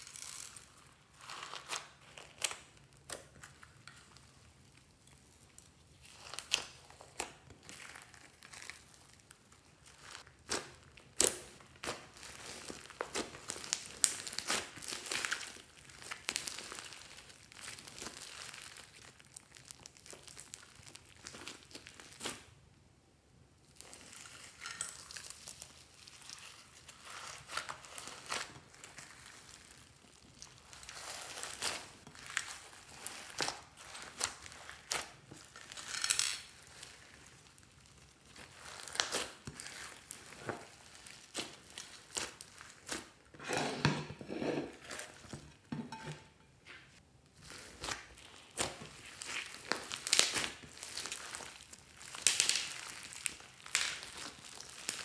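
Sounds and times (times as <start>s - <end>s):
slime crackling and squelching: 0.0s - 22.6s, 23.6s - 43.4s, 46.9s - 55.0s.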